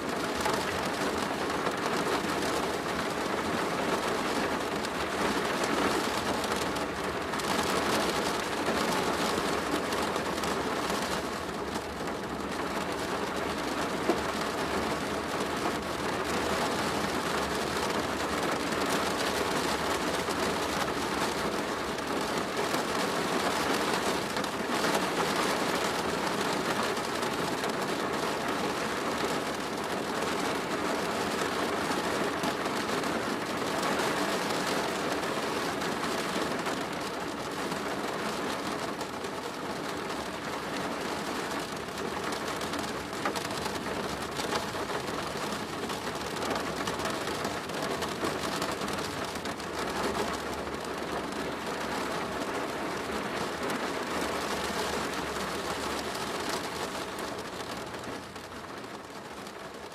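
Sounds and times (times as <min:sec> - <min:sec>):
rain on a plastic roof: 0:00.0 - 0:59.9.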